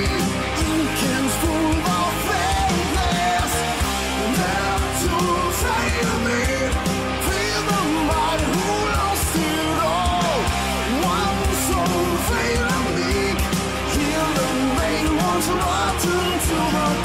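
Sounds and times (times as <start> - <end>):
rock song with singing: 0.0 - 17.0
steady drum beat: 0.0 - 17.0.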